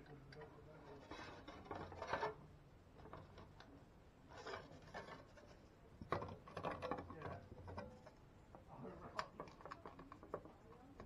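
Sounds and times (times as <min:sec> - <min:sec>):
faint rubbing and scraping: 0:00.0 - 0:11.0.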